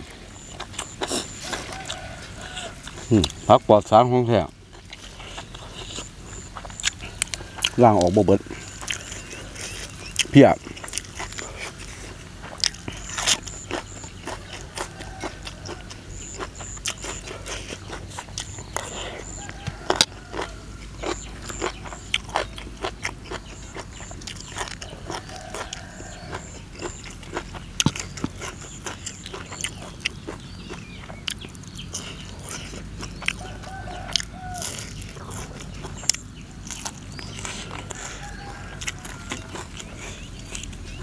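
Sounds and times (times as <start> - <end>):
chewing and crunching food: 0.0 - 41.0.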